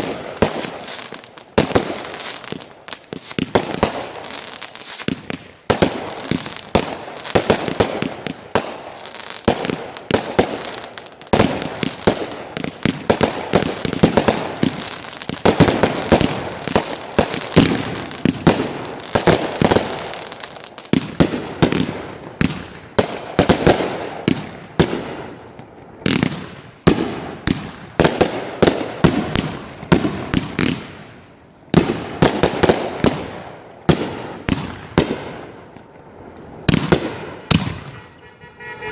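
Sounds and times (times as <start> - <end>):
fireworks bangs and crackles: 0.0 - 38.7.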